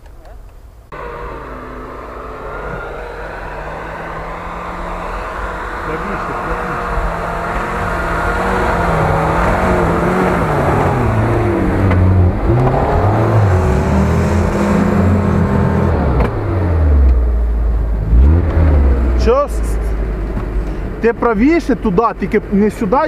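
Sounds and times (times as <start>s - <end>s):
suv engine revving: 0.9s - 23.0s.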